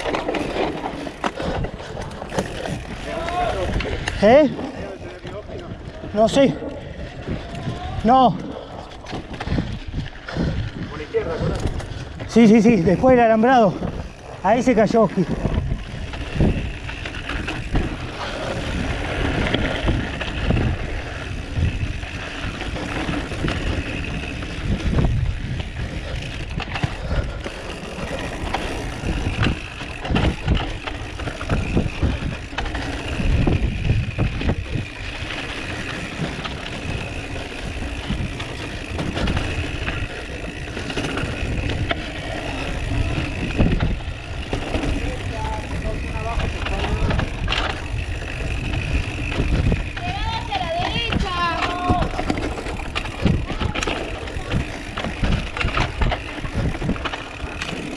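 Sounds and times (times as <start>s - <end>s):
bike bumps and rattles: 0.0s - 57.9s
bike tyres crunching on dirt: 0.0s - 57.9s
wind buffeting microphone: 0.0s - 57.9s.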